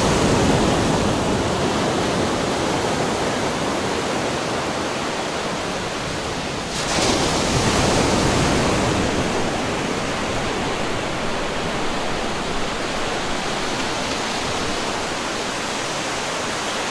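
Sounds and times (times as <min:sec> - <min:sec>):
running water rushing: 0:00.0 - 0:16.9.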